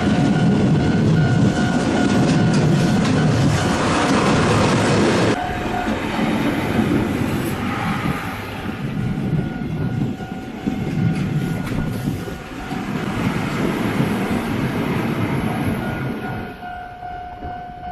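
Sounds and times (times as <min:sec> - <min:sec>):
train wheels clacking on rails: 0:00.0 - 0:17.9.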